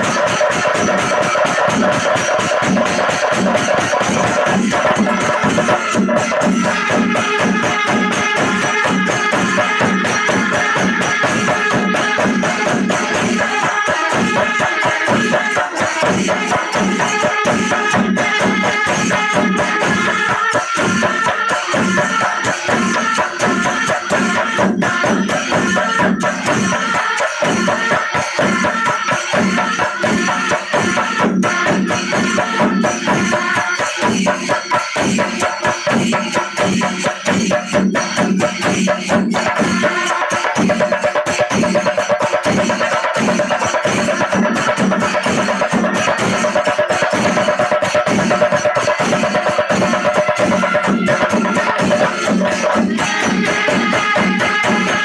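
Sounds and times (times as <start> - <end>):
cymbals: 0.0 - 55.0
drums beaten with sticks: 0.0 - 55.0.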